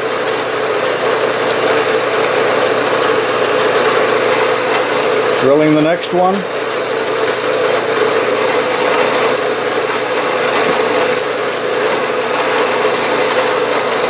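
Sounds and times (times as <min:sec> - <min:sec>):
drill cutting metal: 0:00.0 - 0:14.0
milling machine spindle humming: 0:00.0 - 0:14.0.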